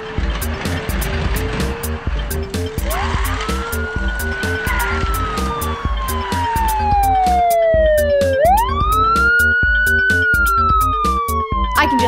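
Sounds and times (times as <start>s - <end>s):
background music with steady beat: 0.0s - 12.0s
police siren wailing: 0.0s - 12.0s.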